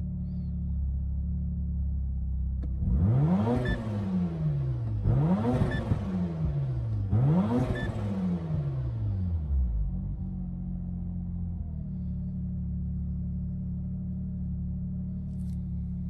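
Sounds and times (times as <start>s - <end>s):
rotary engine idling and revving: 2.6s - 16.0s.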